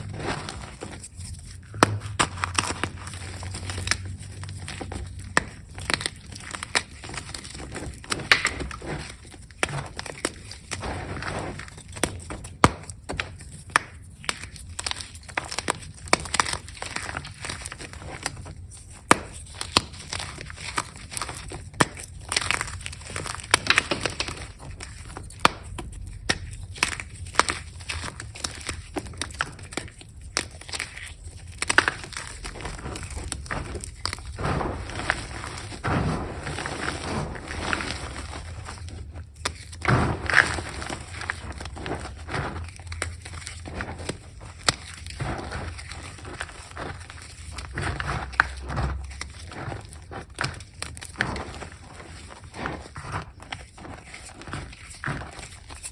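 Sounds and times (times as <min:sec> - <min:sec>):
chalk being crushed: 0:00.0 - 0:55.9.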